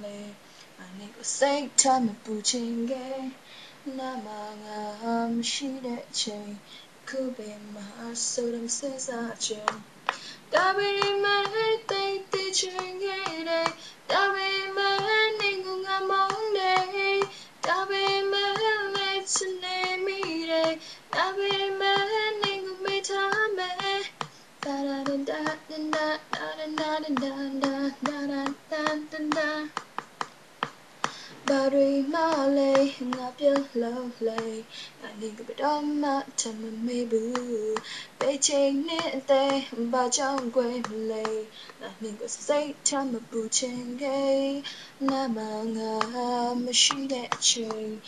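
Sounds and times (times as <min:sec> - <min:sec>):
young woman singing: 0:00.0 - 0:30.0, 0:31.0 - 0:48.0.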